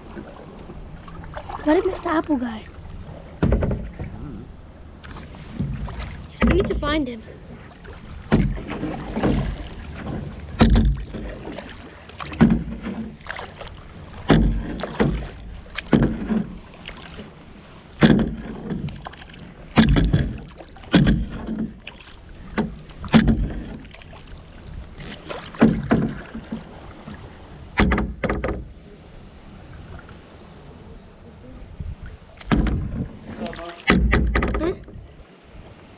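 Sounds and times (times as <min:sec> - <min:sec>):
paddle splashing into water: 0:00.0 - 0:04.2, 0:05.0 - 0:28.8, 0:32.0 - 0:35.9.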